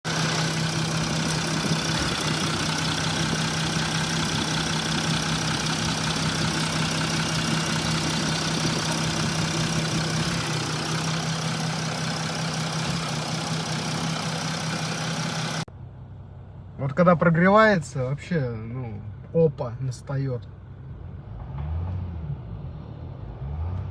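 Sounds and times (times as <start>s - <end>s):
diesel engine idling: 0.0s - 21.3s.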